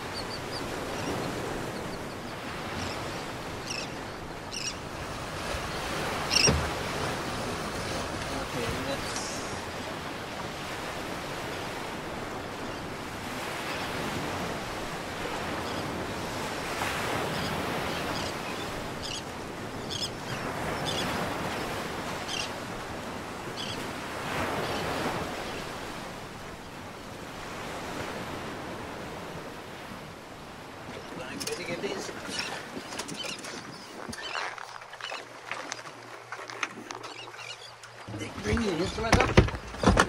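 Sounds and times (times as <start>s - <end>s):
water splashing along hull: 0.0s - 40.0s
wind: 0.0s - 40.0s.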